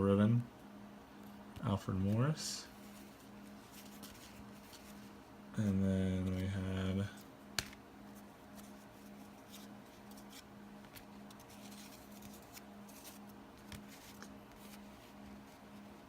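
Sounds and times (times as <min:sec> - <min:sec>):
faint pulsing low hum: 0:00.0 - 0:16.0
trading cards rustling and sliding: 0:02.0 - 0:16.0.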